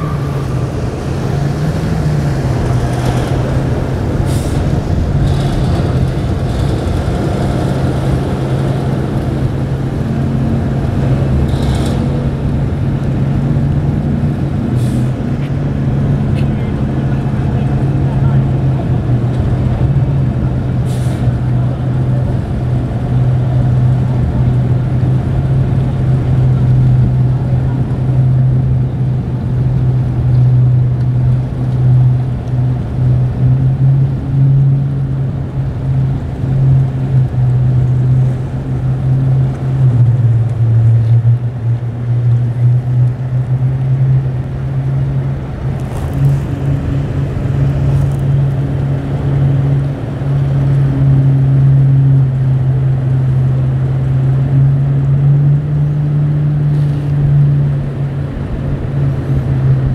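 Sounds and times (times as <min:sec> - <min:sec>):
outboard motors droning: 0:00.0 - 0:59.9.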